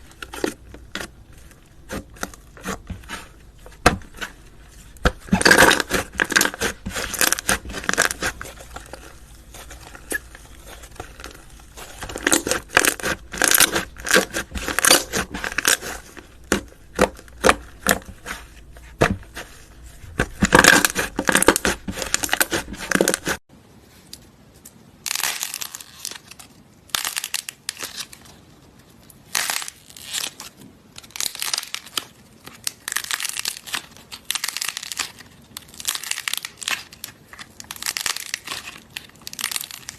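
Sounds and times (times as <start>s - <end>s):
slime crackling and popping: 0.0s - 23.4s, 25.1s - 28.2s, 31.0s - 39.9s.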